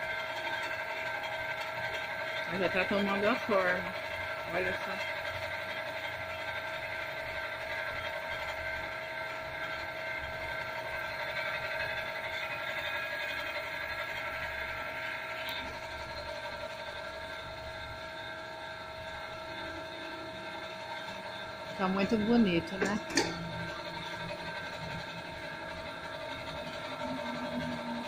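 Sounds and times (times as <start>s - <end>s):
potter's wheel motor humming: 0.0s - 28.0s.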